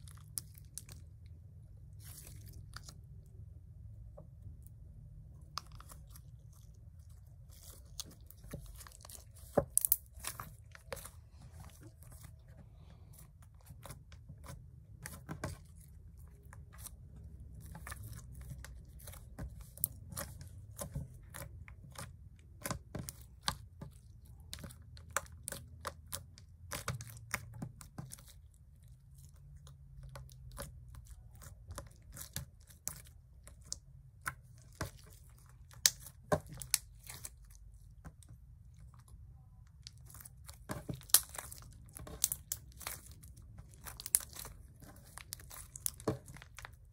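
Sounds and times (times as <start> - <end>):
fingers squishing sticky slime: 0.0 - 46.9.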